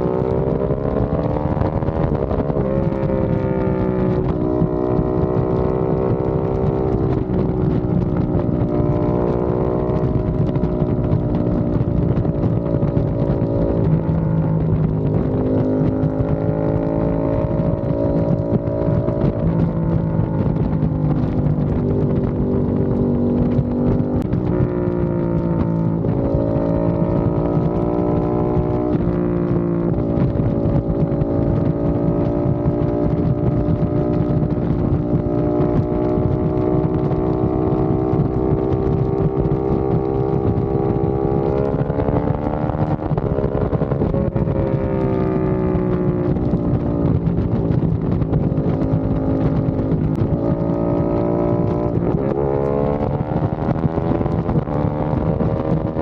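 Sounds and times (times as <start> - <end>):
deep motorcycle engine revving: 0.0 - 56.0.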